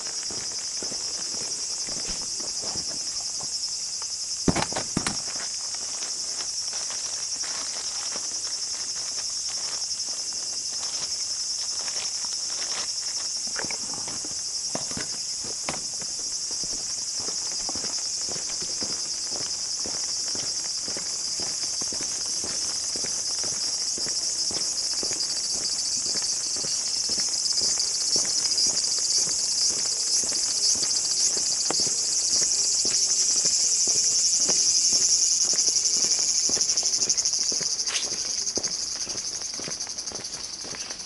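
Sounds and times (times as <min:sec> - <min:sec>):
high-pitched insect chorus: 0:00.0 - 0:41.0
person walking footsteps: 0:00.0 - 0:41.0.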